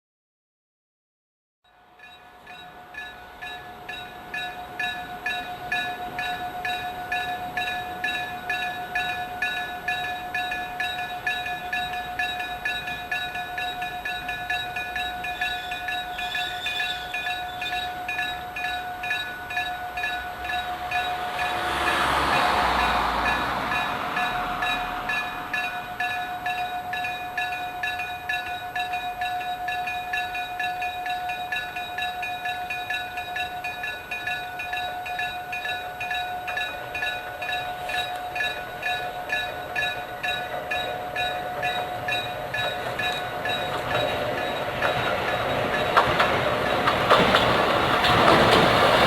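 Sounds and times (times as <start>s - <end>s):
train running by: 1.7s - 49.0s
level crossing warning bell: 1.8s - 49.0s.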